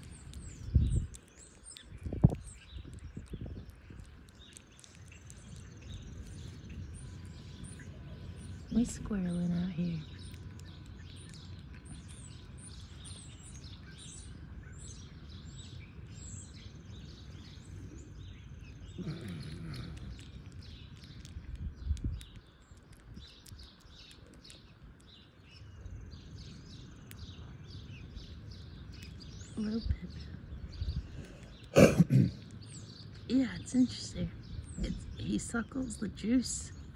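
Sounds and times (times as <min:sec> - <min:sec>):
low outdoor rumble: 0:00.0 - 0:36.9
small birds chirping: 0:00.0 - 0:36.9.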